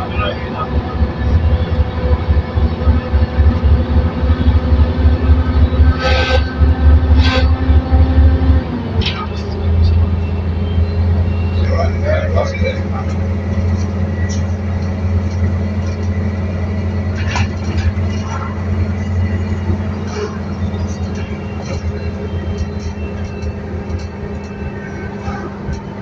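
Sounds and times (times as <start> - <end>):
bus body rattles and knocks: 0.0 - 26.0
bus diesel engine drone: 0.0 - 26.0.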